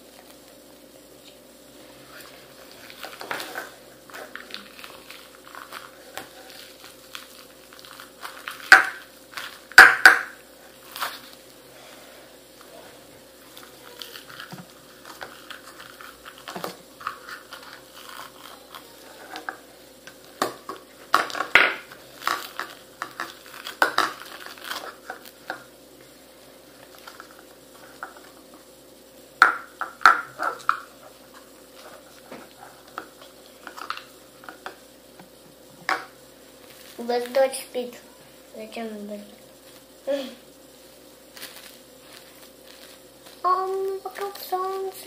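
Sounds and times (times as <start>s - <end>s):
foam clay crackling and rustling: 0.0s - 9.9s, 10.5s - 28.7s, 30.3s - 34.8s, 36.4s - 45.0s.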